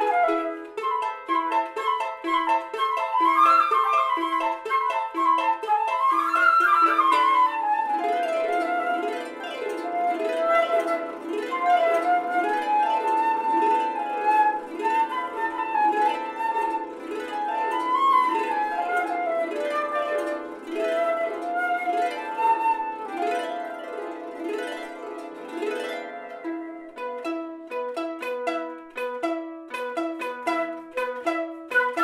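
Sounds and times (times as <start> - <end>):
flute slow melody: 0.0 - 32.0
harp plucked arpeggios: 0.0 - 32.0.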